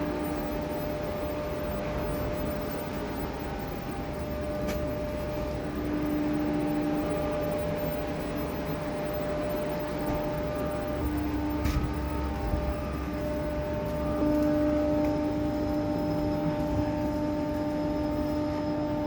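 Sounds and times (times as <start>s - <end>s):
machine hum with whine: 0.0s - 19.0s.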